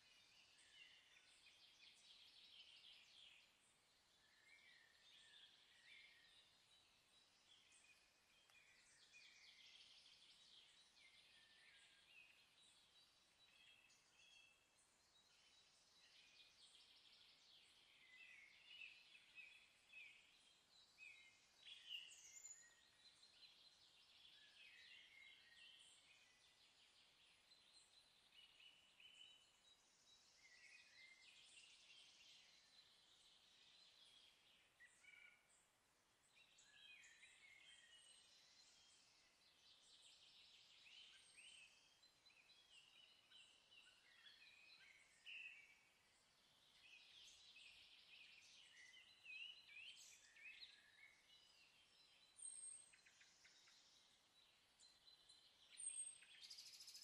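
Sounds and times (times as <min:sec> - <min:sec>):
faint birds chirping: 0:00.0 - 0:57.0.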